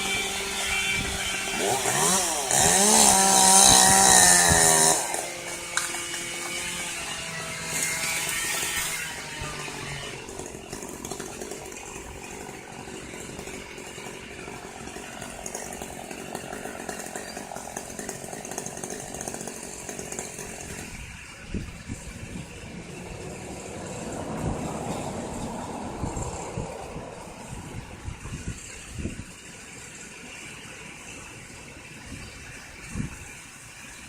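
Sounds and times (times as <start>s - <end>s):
chainsaw cutting wood: 0.0s - 34.0s.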